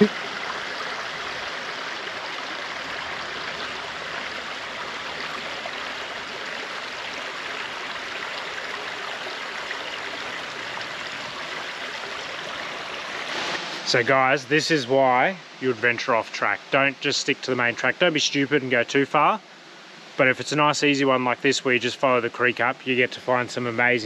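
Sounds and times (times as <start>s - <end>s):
creek flowing over rocks: 0.0s - 24.0s.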